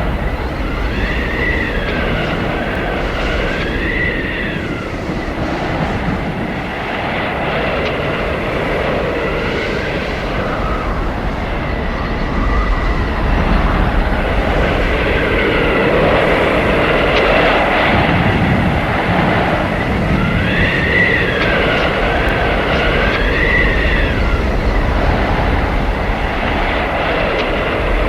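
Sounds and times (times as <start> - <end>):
howling blizzard wind: 0.0 - 28.0.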